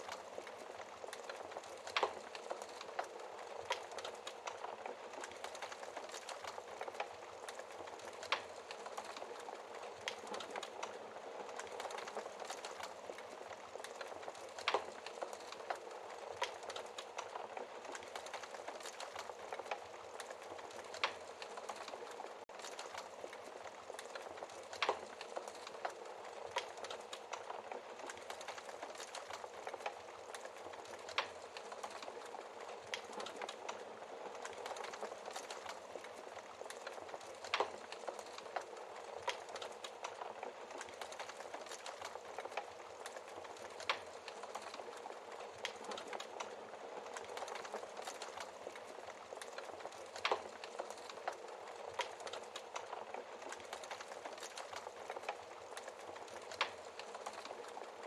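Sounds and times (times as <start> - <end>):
soft steady hiss: 0.0 - 58.0
wood fire crackling: 0.0 - 58.0.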